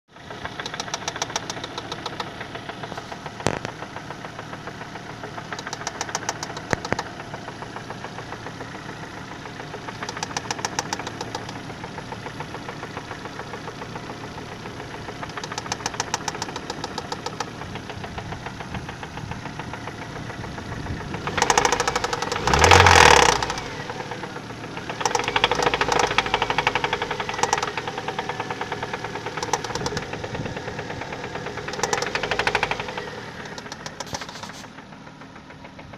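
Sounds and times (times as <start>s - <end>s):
car engine running: 0.0s - 35.9s
engine knocking tick: 0.1s - 35.9s.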